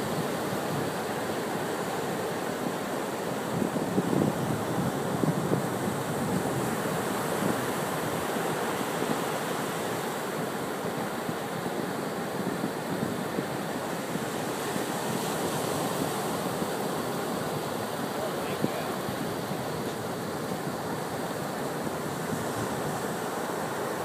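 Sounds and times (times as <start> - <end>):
waves breaking on sandy beach: 0.0 - 24.0.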